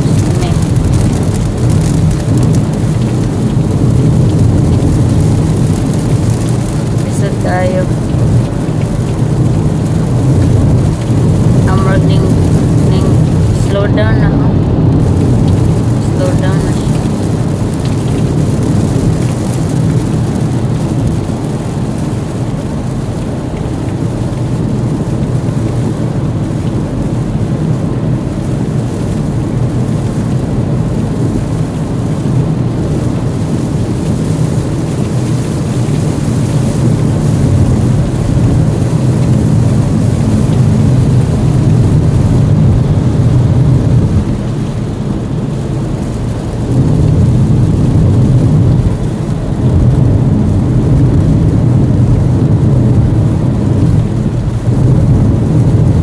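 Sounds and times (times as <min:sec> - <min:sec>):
car driving rumble: 0:00.0 - 0:56.0
rain on car: 0:00.0 - 0:56.0.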